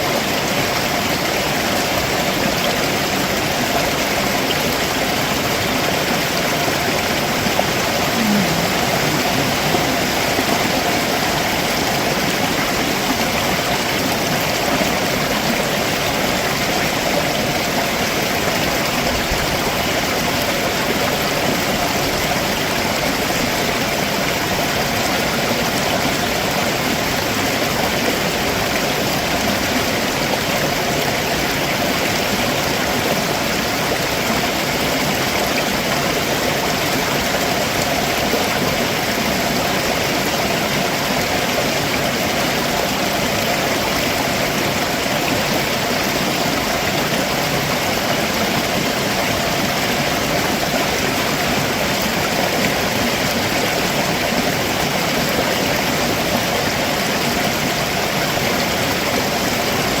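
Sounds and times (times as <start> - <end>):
stream running over rocks: 0.0 - 60.0.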